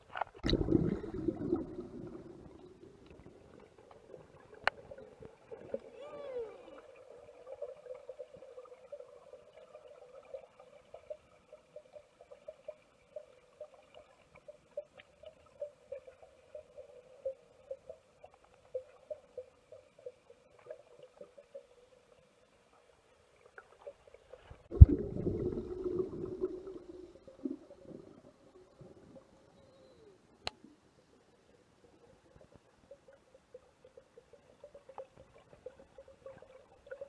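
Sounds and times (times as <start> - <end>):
faint underwater hum: 0.0 - 37.0
soft regular pulses: 0.0 - 37.0.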